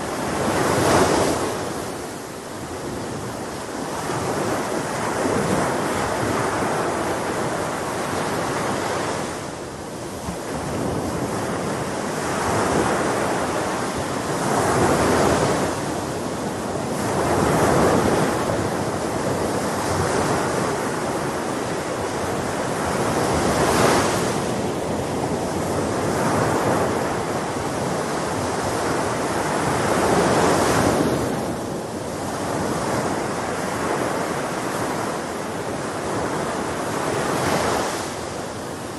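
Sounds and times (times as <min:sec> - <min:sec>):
sea waves breaking on shore: 0:00.0 - 0:38.9
wind: 0:00.0 - 0:38.9.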